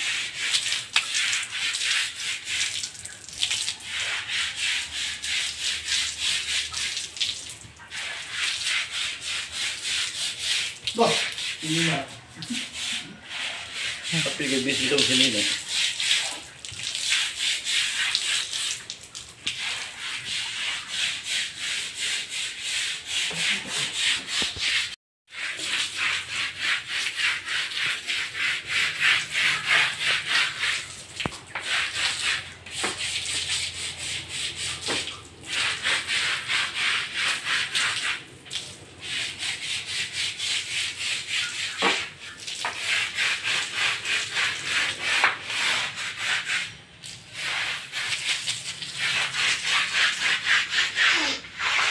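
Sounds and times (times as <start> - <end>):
brush scrubbing wet concrete floor: 0.0 - 51.9.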